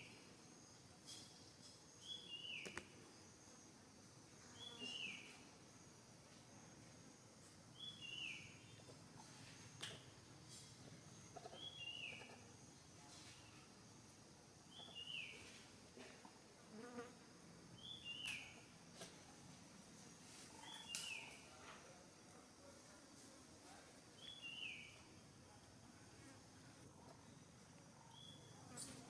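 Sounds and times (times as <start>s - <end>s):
high insect hum: 0.0s - 29.0s.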